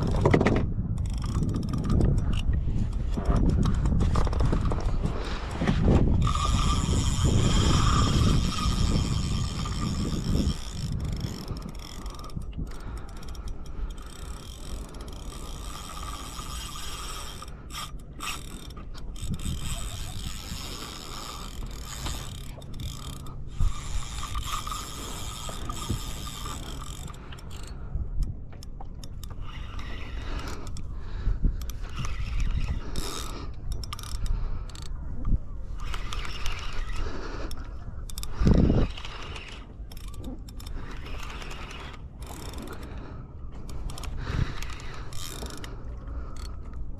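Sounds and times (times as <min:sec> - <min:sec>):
fishing reel ratcheting: 0:00.0 - 0:46.9.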